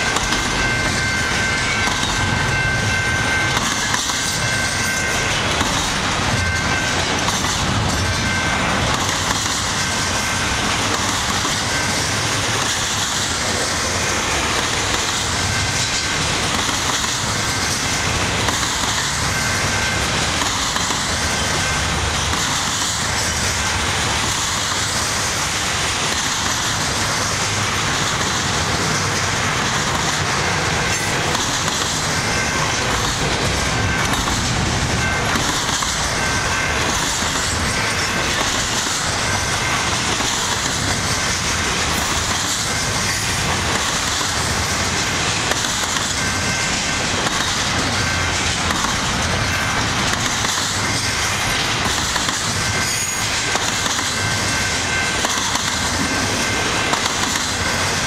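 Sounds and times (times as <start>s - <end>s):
freight train wheels clattering on rails: 0.0s - 58.0s.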